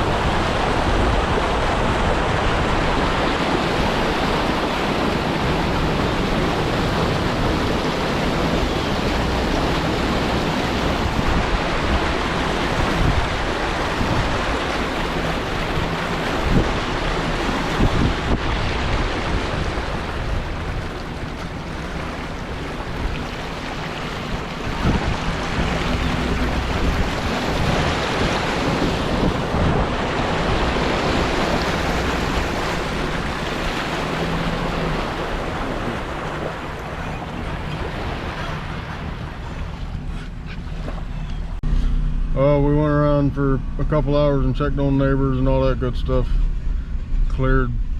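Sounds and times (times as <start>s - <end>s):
gusty wind on microphone: 0.0s - 42.4s, 45.6s - 47.9s.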